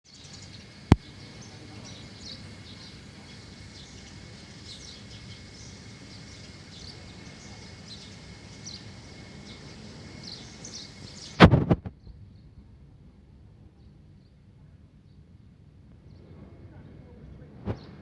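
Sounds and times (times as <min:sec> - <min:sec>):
birds chirping: 0:00.0 - 0:12.8, 0:13.7 - 0:18.0
steady outdoor background hum: 0:00.0 - 0:18.0.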